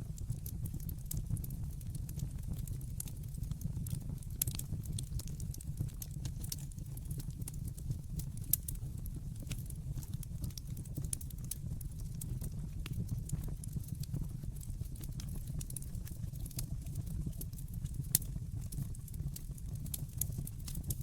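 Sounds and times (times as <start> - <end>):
wood fire crackling: 0.1 - 21.0.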